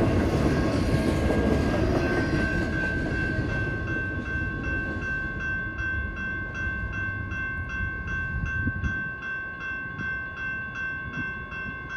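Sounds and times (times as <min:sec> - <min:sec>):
freight train rumble: 0:00.0 - 0:11.9
railroad crossing bell ringing: 0:00.0 - 0:11.9.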